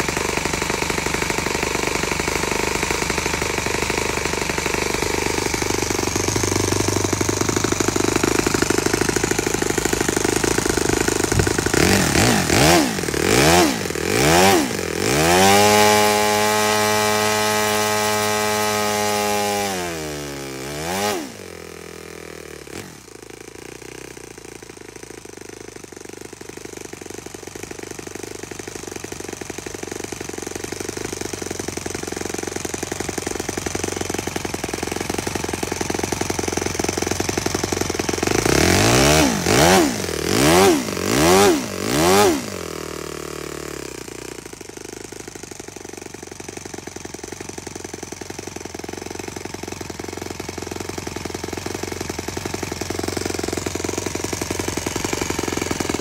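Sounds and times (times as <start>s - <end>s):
model engine turning propeller: 0.0s - 56.0s.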